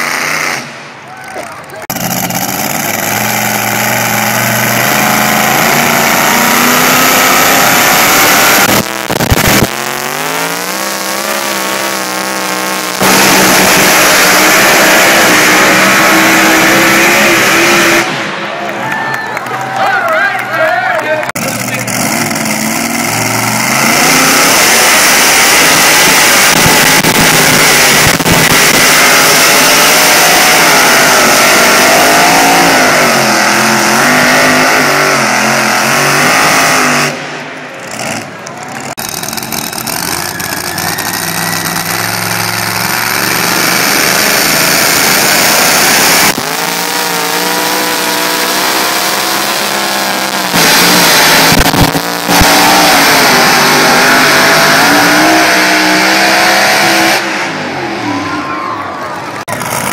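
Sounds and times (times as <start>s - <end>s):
truck engines revving hard: 0.0s - 59.9s.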